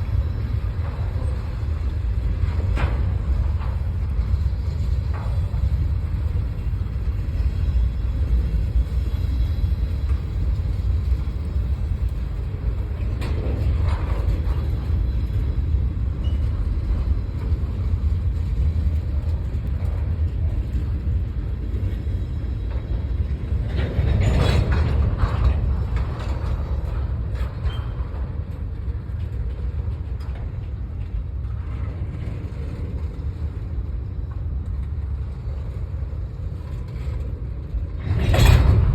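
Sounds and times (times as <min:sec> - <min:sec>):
train rumbling past: 0:00.0 - 0:38.9.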